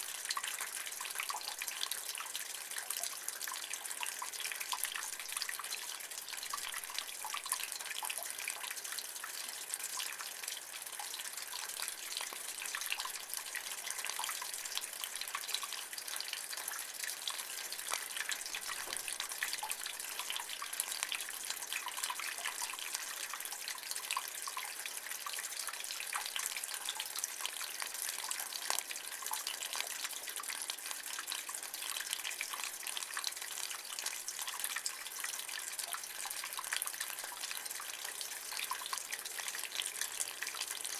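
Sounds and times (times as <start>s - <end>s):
water dripping in a gutter: 0.0s - 40.9s.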